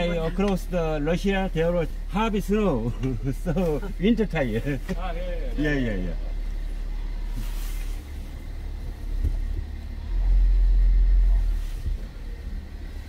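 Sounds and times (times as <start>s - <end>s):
car rumbling pulling away: 0.0s - 13.0s.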